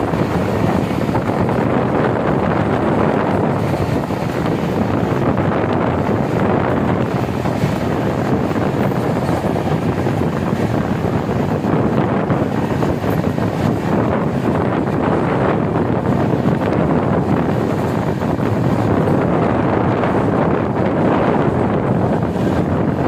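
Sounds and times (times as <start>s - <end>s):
train running on track: 0.0s - 23.0s
wind buffeting microphone: 0.0s - 23.0s.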